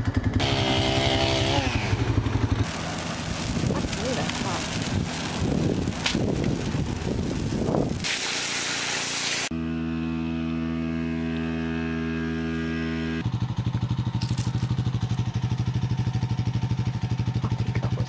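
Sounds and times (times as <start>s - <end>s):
motor engine running: 0.0s - 18.0s.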